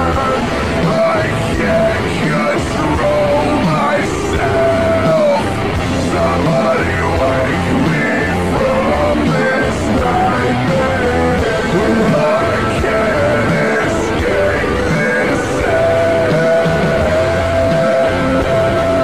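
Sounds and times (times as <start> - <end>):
loud hard rock music: 0.0 - 19.0.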